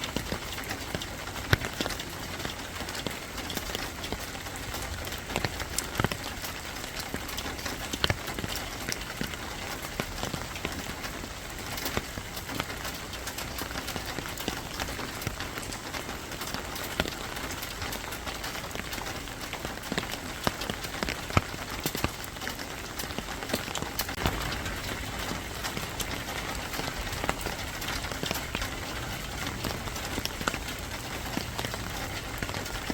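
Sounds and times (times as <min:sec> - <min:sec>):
raindrops tapping a surface: 0:00.0 - 0:32.9
steady rain hiss: 0:00.0 - 0:32.9.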